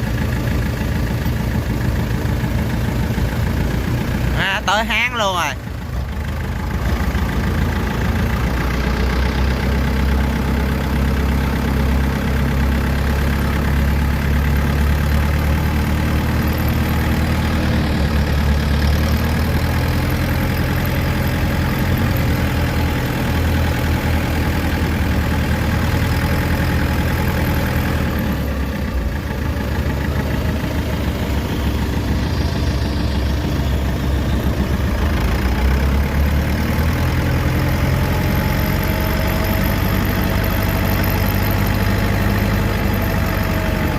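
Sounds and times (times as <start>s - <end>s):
diesel engine running under load: 0.0s - 43.9s.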